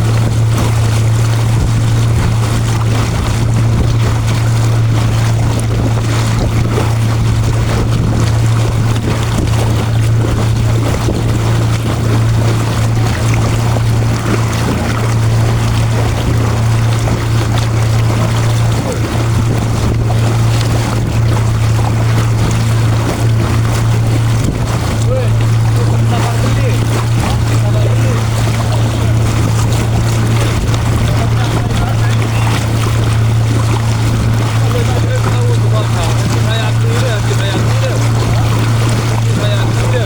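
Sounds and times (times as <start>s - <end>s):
boat motor humming: 0.0s - 40.0s
water rushing: 0.0s - 40.0s
wind: 0.0s - 40.0s.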